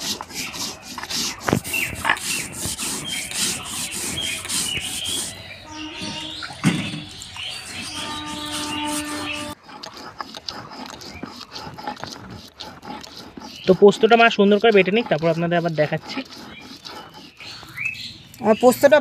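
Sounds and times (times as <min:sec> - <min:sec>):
stone roller rasping on seeds: 0:00.0 - 0:19.0.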